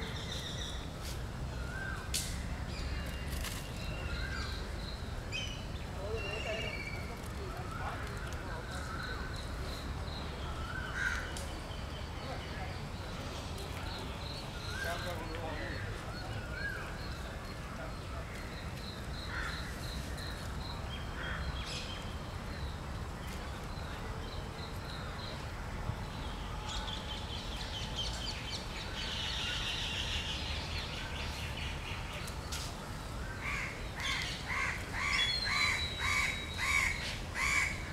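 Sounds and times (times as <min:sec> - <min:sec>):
low background noise: 0:00.0 - 0:37.9
small birds chirping: 0:00.0 - 0:37.9.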